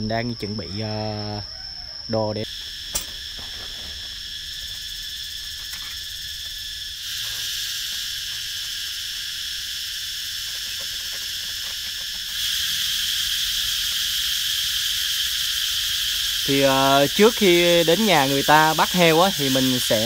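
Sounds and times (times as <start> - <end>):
insects chorus: 0.0 - 20.0.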